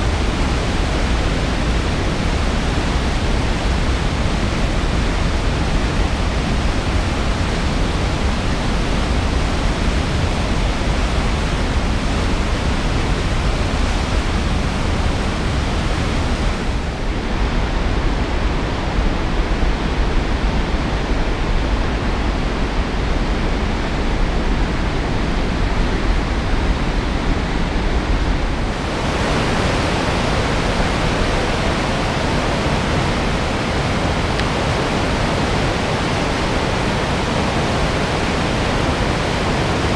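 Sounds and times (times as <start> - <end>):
river rapids rushing over rocks: 0.0 - 17.4, 21.4 - 39.9.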